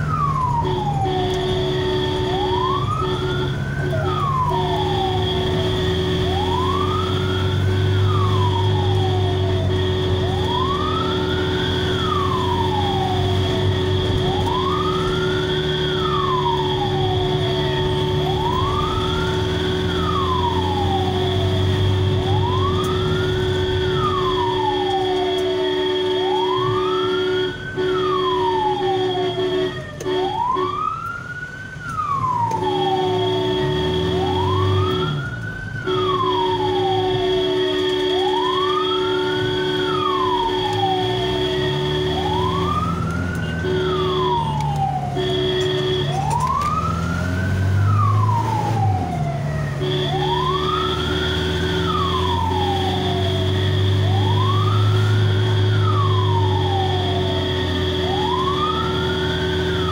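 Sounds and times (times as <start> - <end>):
electronic wail siren: 0.0 - 59.9
vehicle engine rumble: 0.0 - 59.9.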